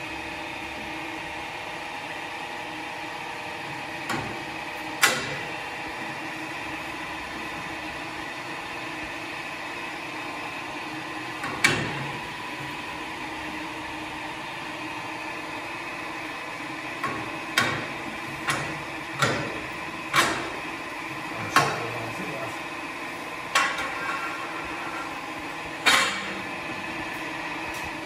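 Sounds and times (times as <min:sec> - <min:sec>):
oil priming pump humming: 0:00.0 - 0:28.0.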